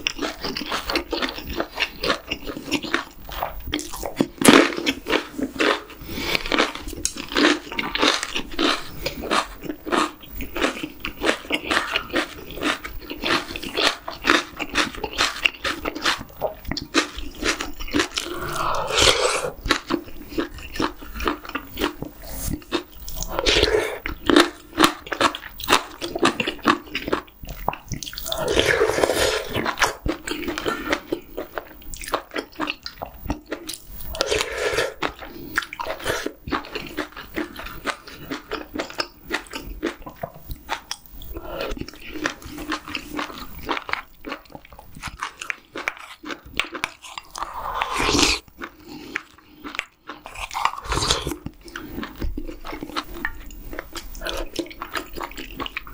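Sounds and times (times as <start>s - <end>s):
wet chewing and biting: 0.0s - 55.9s.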